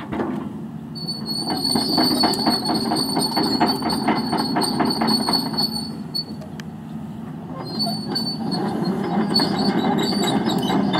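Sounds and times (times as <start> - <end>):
diesel engine rumble: 0.0 - 10.9
crawler tracks squealing and clanking: 1.0 - 6.5, 7.2 - 10.9.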